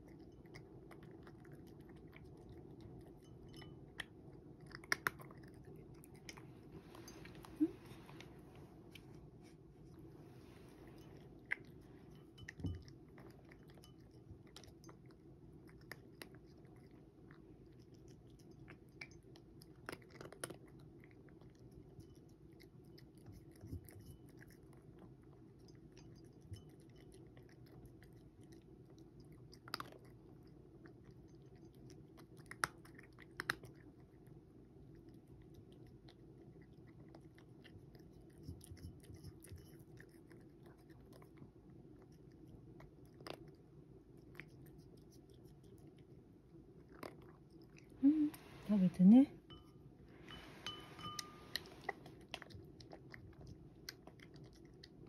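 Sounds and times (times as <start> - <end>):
cat chewing: 0.0 - 48.7, 49.4 - 55.0.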